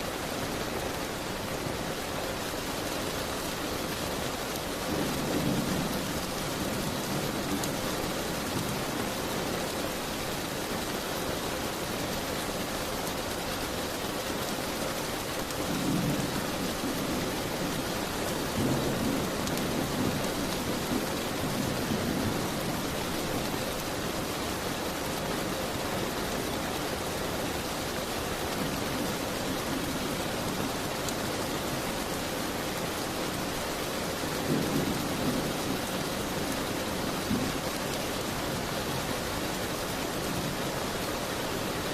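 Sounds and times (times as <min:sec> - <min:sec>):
heavy rain on window: 0:00.0 - 0:41.9.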